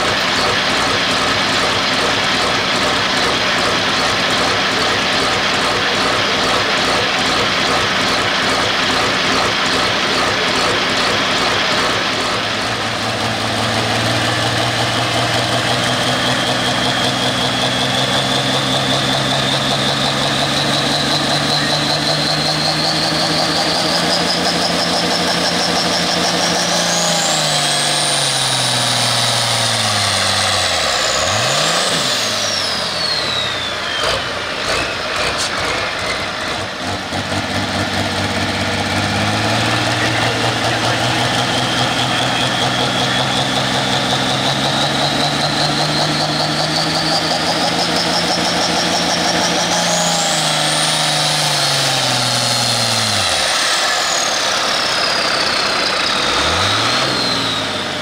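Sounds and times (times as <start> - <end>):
diesel engine revving: 0.0 - 58.0
turbo whine: 0.0 - 58.0.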